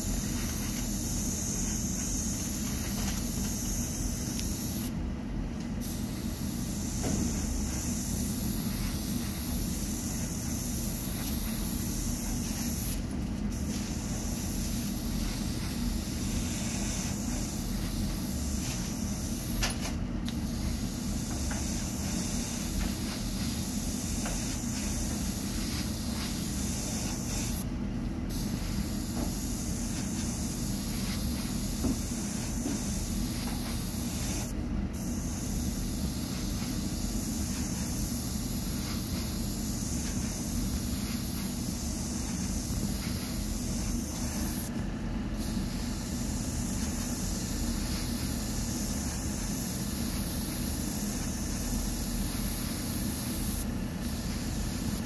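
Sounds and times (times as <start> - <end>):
airbrush hissing: 0.0 - 4.9, 5.8 - 27.7, 28.3 - 44.7, 45.4 - 55.0.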